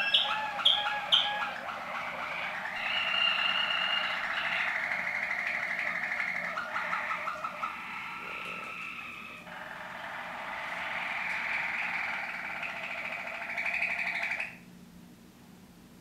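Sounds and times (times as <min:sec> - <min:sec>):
canary singing trills: 0:00.0 - 0:14.6.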